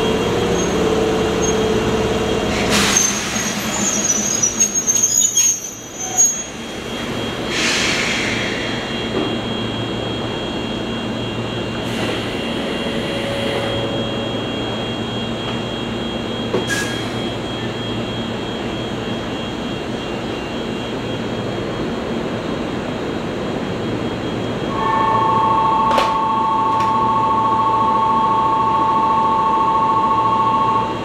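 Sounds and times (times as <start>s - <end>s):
electric train hum with high whine: 0.0s - 31.0s.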